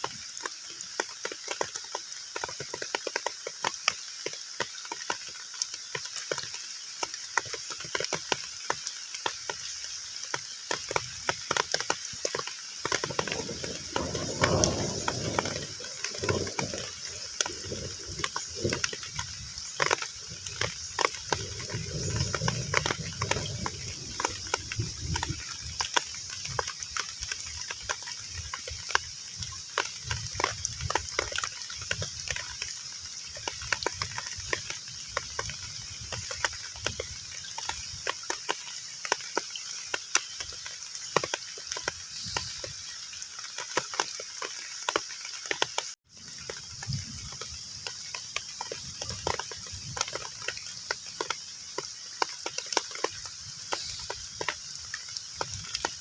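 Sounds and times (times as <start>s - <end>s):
heavy rain on pond: 0.0s - 56.0s.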